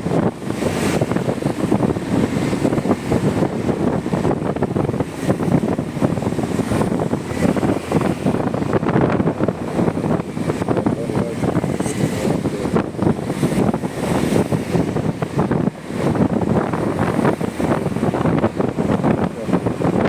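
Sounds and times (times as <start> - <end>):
motorcycle on wet road: 0.0 - 20.0
wind buffeting microphone: 0.0 - 20.0.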